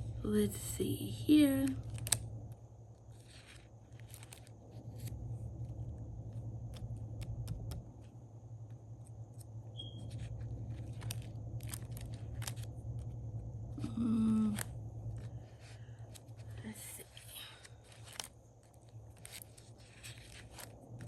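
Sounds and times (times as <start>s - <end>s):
low hum: 0.0s - 21.0s
sticker pages crackling: 1.3s - 21.0s.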